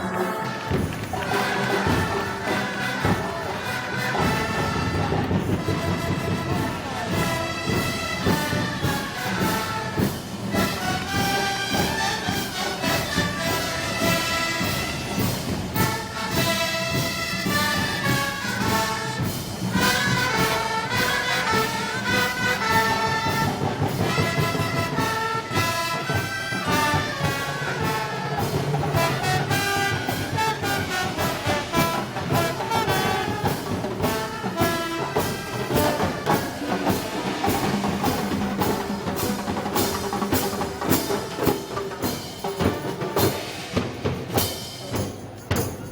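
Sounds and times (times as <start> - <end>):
trumpets and trombones: 0.0 - 44.5
brass band playing: 0.0 - 45.3
percussion beat: 0.0 - 45.9.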